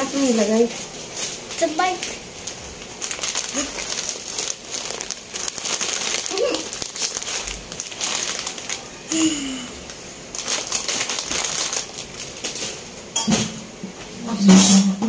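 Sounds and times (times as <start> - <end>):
plastic snack packets crinkling: 0.0 - 12.9.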